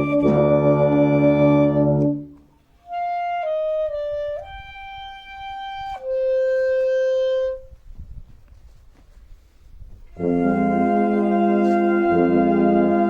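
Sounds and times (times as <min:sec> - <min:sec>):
wind band chord: 0:00.0 - 0:07.8, 0:10.2 - 0:13.0
woodwind solo phrase: 0:00.0 - 0:07.8, 0:10.2 - 0:13.0.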